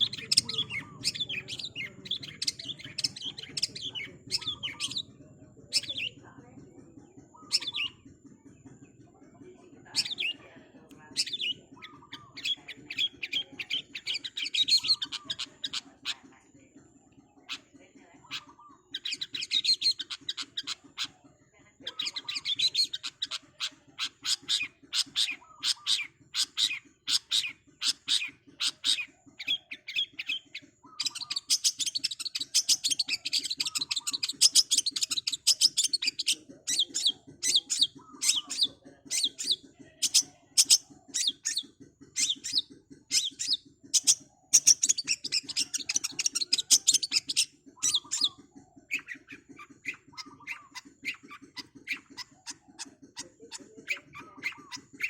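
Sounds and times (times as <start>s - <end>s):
bird singing rapid chattering song: 0.0s - 55.0s.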